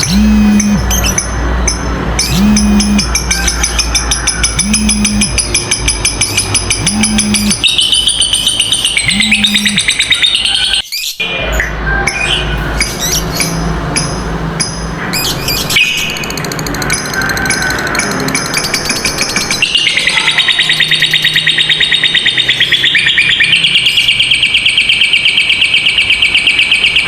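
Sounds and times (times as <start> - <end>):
lovebirds rattling chatter: 0.0 - 11.1, 12.1 - 25.6.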